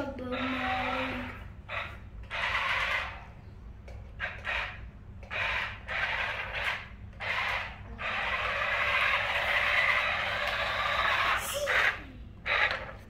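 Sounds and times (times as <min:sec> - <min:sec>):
toy motor whirring: 0:00.2 - 0:03.3, 0:04.2 - 0:13.0.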